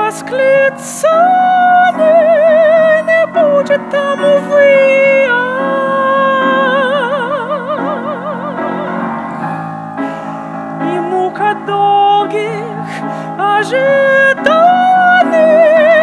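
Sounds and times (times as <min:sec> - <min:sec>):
operatic singing voice: 0:00.0 - 0:09.2, 0:10.8 - 0:16.0
instrumental accompaniment: 0:00.0 - 0:16.0.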